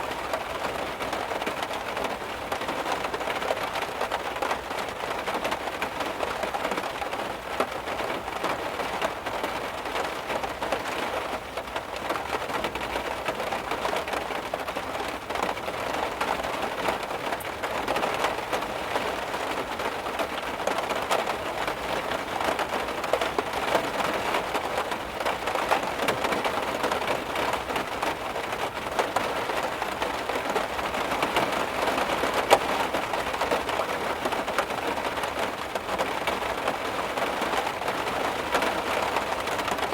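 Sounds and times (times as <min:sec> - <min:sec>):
heavy rain drumming on a car: 0:00.0 - 0:39.9.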